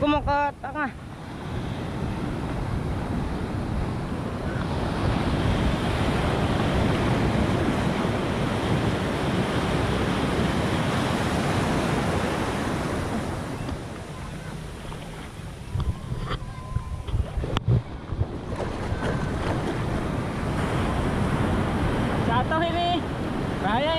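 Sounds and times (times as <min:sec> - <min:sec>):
waves breaking: 0:00.0 - 0:23.9.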